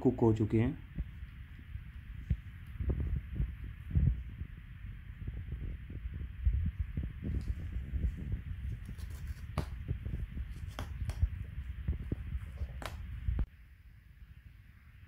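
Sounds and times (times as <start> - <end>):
low rumble on microphone: 0.8 - 13.5.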